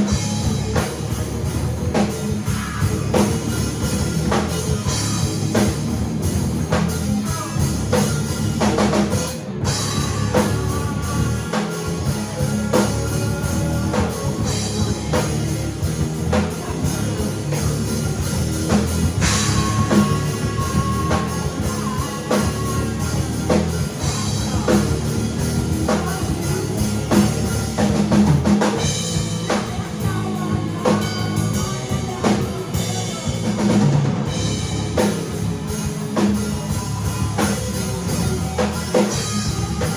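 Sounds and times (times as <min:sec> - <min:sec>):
drum kit: 0:00.0 - 0:39.9
rock band playing: 0:00.0 - 0:39.9.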